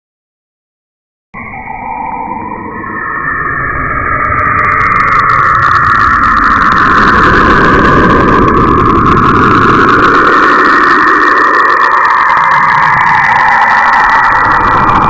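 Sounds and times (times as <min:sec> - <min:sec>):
noisy rushing drone: 0:01.4 - 0:15.0.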